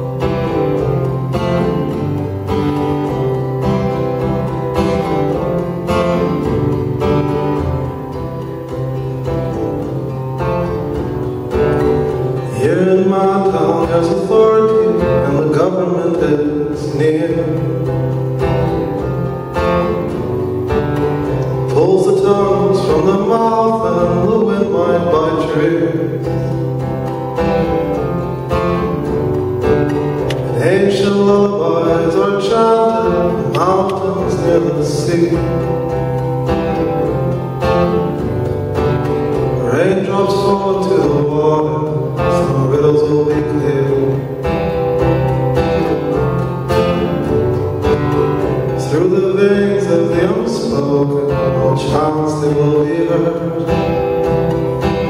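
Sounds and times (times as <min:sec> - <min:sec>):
acoustic guitar: 0:00.0 - 0:55.0
man singing folk song: 0:00.0 - 0:55.0.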